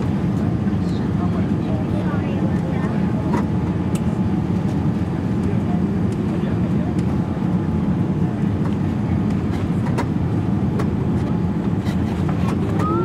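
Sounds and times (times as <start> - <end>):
jet engines and airflow rumble: 0.0 - 13.0.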